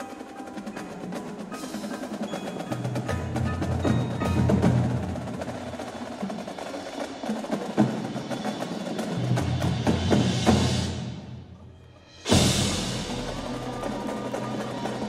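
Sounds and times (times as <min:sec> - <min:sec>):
drum and mallet strikes: 0:00.0 - 0:11.5, 0:12.1 - 0:15.0.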